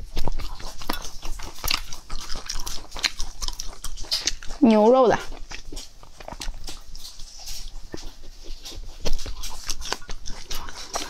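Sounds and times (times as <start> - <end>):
chewing and biting meat: 0.0 - 11.0.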